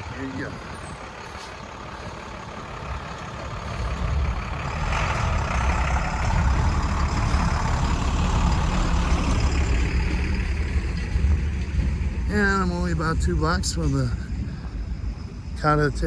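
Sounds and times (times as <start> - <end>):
garbage truck engine rumble: 0.0 - 16.0.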